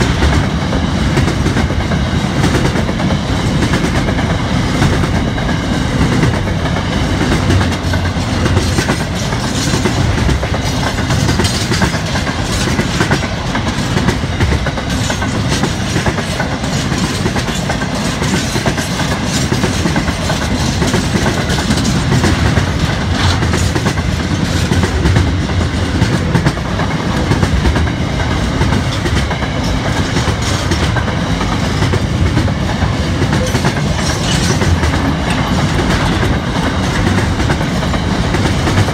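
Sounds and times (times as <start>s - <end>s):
train wheels running on rails: 0.0s - 38.9s.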